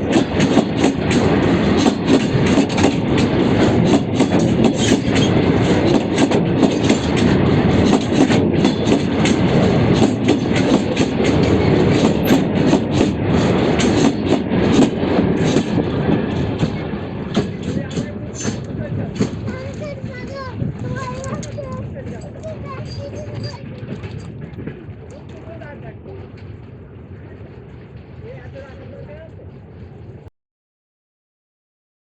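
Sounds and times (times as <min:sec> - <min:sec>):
train wheels clattering on rail joints: 0:00.0 - 0:30.2
train rumble: 0:00.0 - 0:30.3.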